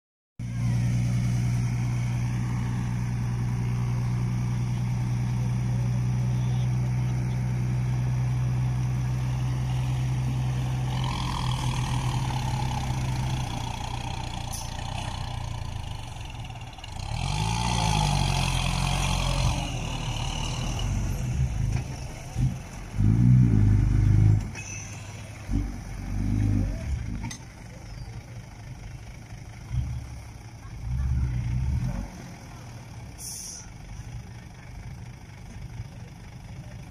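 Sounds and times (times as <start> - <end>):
diesel truck engine running: 0.4 - 36.9.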